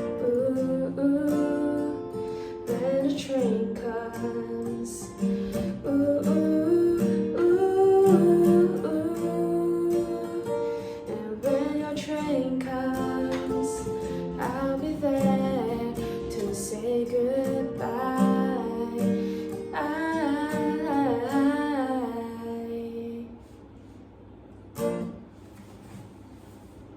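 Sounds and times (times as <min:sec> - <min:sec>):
guitar accompaniment: 0:00.0 - 0:22.8, 0:24.6 - 0:26.0
woman singing wordless melody: 0:00.0 - 0:23.5.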